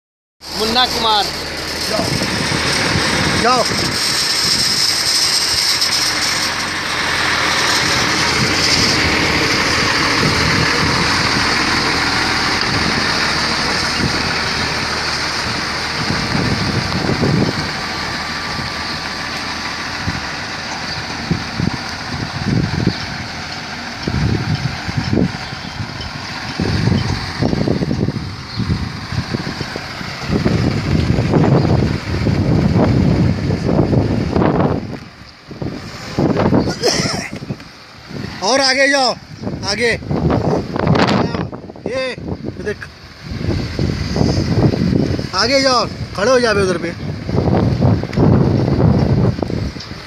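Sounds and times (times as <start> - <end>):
truck diesel engine driving off: 0.4 - 50.0
wind buffeting microphone: 0.5 - 50.0.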